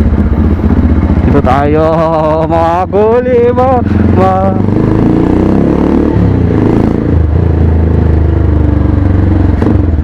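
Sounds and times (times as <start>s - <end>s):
motorcycle engine running loud: 0.0s - 10.0s.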